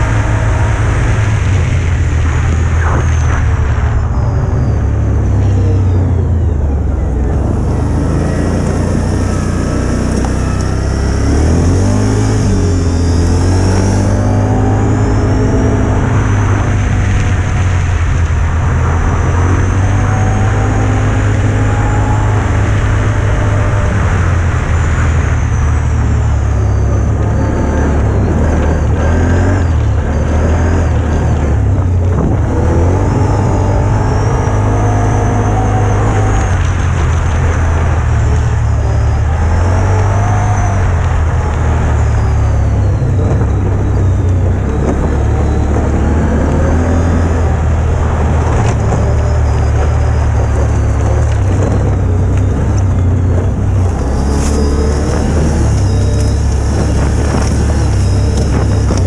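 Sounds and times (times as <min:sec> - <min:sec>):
quad bike engine revving: 0:00.0 - 0:03.9, 0:04.5 - 0:59.0.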